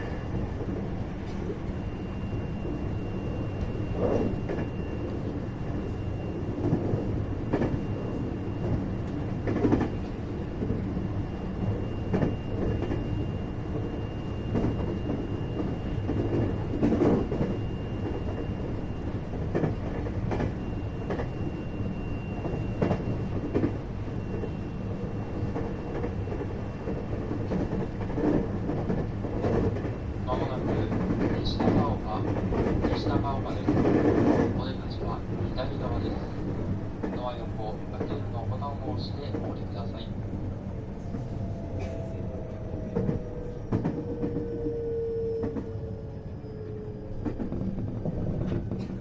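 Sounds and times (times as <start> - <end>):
train wheels and motors rumbling: 0.0 - 49.0.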